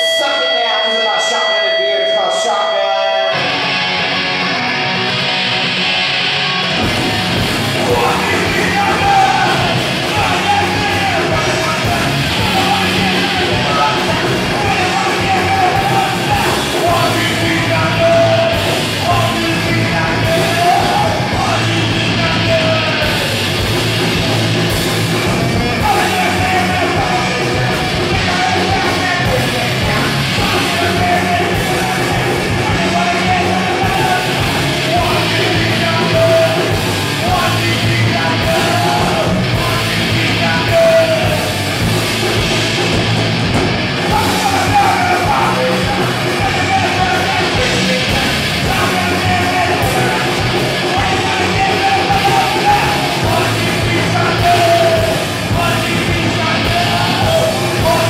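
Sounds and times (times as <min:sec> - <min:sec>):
punk rock band playing live: 0:00.0 - 0:58.0
yelled lead vocal: 0:00.0 - 0:58.0.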